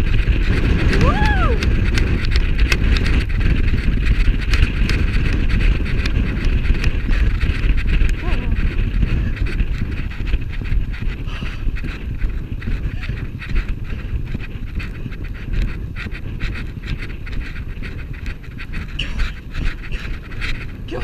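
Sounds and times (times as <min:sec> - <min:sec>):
horse hoofbeats on grass: 0:00.0 - 0:21.0
wind buffeting microphone: 0:00.0 - 0:21.0
horse panting breaths: 0:01.6 - 0:21.0.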